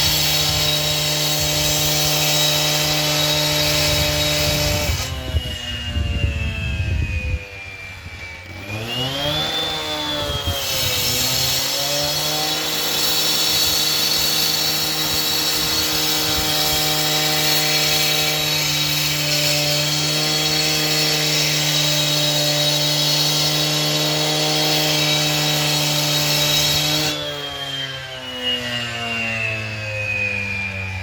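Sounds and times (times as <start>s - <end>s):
power saw cutting: 0.0s - 31.0s.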